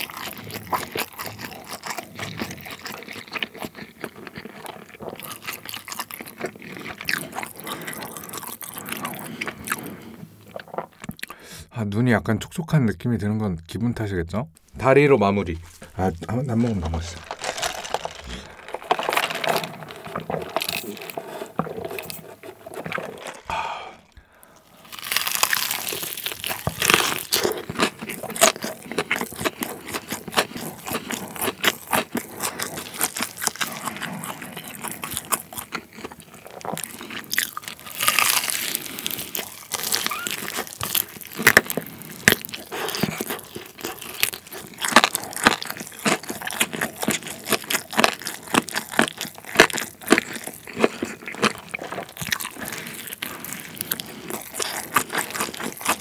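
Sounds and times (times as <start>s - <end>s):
crunching and chewing fried chicken: 0.0s - 11.6s, 15.5s - 56.0s.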